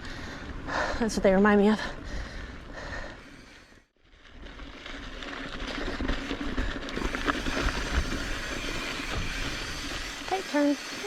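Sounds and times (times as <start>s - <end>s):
bike tyre and wind noise: 0.0s - 11.0s
bike rattles and clicks: 2.0s - 11.0s.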